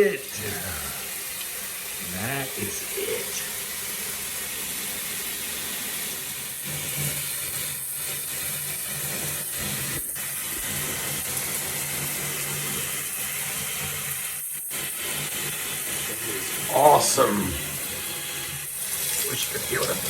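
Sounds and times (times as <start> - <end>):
shower water spraying: 0.0 - 20.0.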